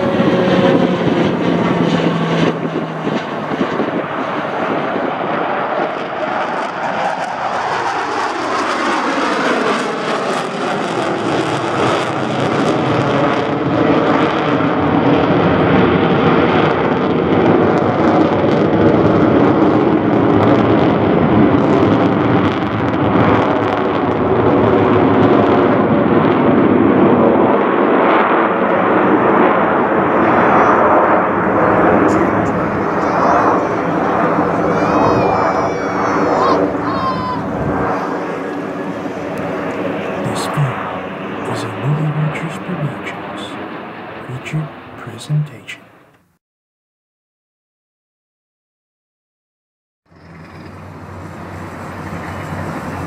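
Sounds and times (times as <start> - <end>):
jet roar passing overhead: 0.0 - 46.0, 50.2 - 53.0.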